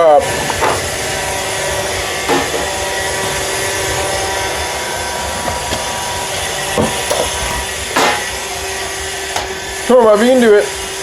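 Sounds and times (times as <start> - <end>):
robot vacuum whirring hum: 0.0 - 11.0.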